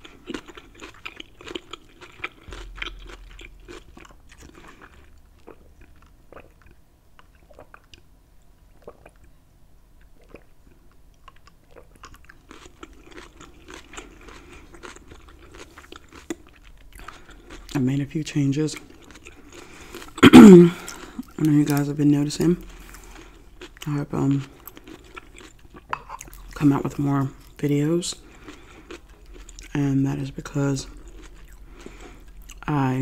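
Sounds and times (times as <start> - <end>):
chewing crunchy food: 0.0 - 8.1, 8.7 - 9.4, 10.0 - 33.0.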